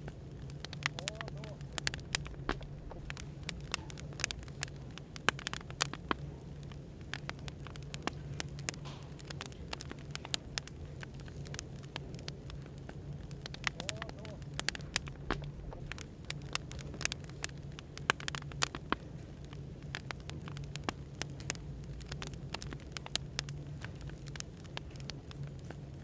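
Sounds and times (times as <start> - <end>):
steady low hum: 0.0 - 26.0
wood fire crackling: 0.0 - 26.0.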